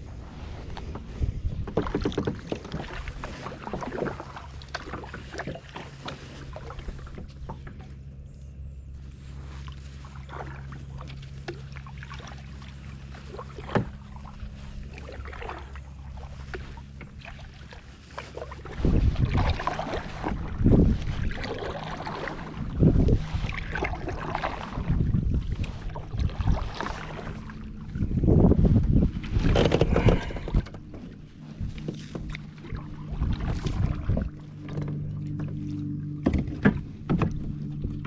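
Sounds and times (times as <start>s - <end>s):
steady low hum: 0.0s - 38.0s
water noise: 0.0s - 38.0s
water splashing against kayak: 0.0s - 38.0s.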